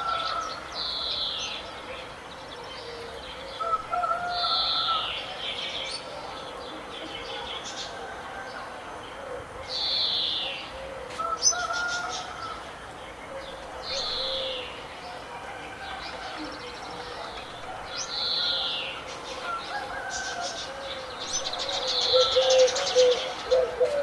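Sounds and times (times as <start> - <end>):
lower steady bird calls: 0.0 - 24.0.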